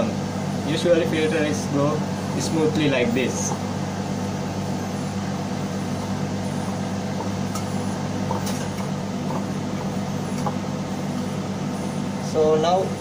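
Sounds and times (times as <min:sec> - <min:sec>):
engine room machinery hum: 0:00.0 - 0:13.0.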